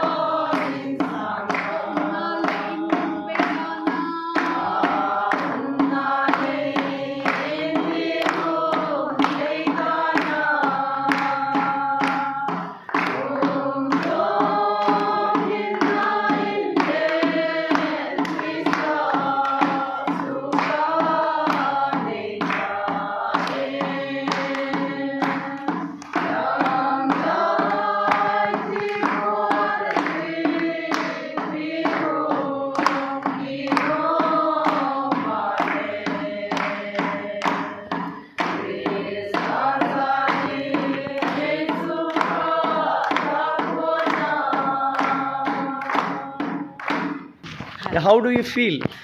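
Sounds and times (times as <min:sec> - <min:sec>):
group singing in unison: 0:00.0 - 0:48.0
hand clapping: 0:00.0 - 0:49.0.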